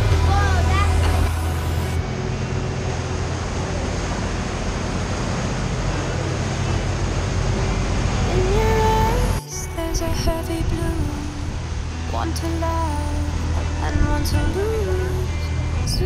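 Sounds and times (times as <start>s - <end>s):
boat engines rumbling: 0.0s - 16.0s.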